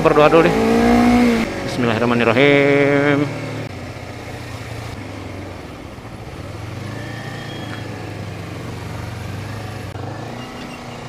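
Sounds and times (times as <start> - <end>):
motorcycle engine running: 0.0 - 11.0
surrounding traffic noise: 0.0 - 11.0.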